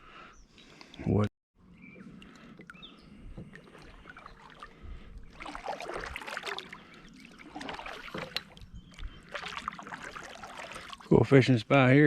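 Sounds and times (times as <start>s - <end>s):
water splashing and sloshing: 1.6s - 11.4s.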